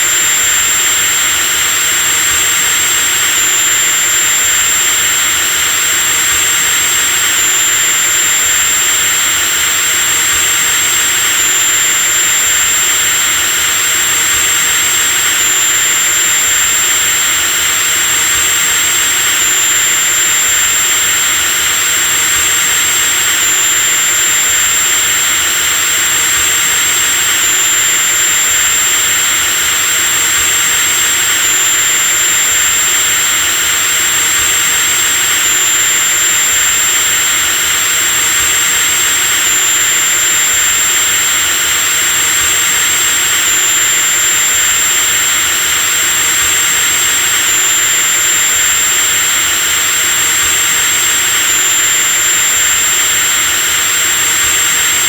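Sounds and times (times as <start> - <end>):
electric drill whirring: 0.0 - 55.0.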